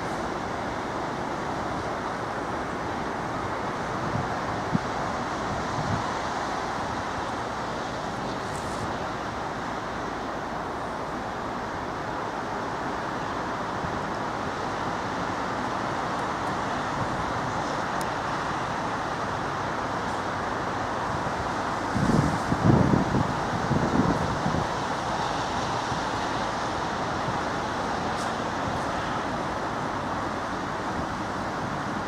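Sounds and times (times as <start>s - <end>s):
passenger train rolling past: 0.0s - 32.0s.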